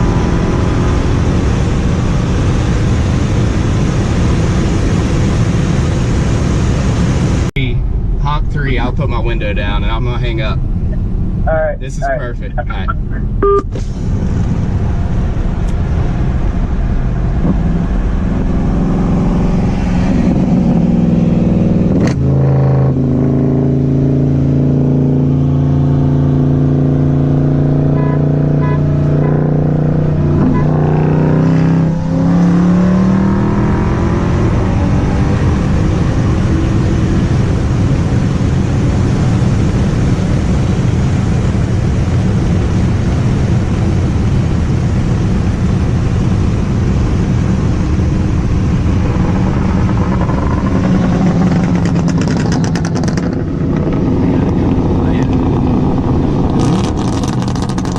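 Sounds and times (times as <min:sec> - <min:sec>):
car engine accelerating hard: 0:00.0 - 0:57.9
wind and road noise: 0:00.0 - 0:57.9.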